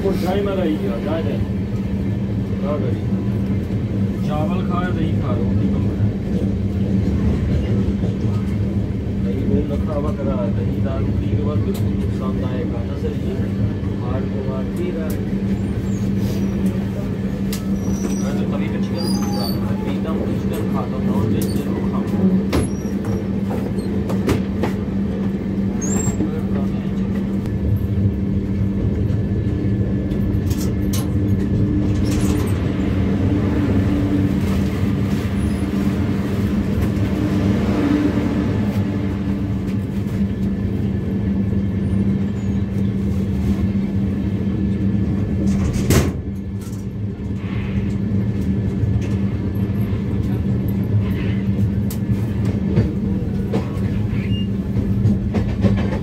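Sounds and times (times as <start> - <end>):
train coach rumble and hum: 0.0 - 56.0.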